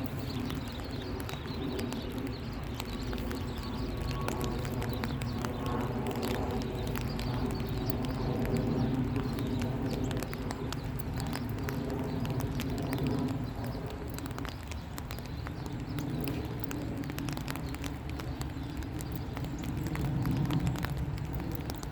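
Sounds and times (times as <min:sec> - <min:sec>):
rain falling: 0:00.0 - 0:21.9
sharp taps of raindrops: 0:00.0 - 0:21.9.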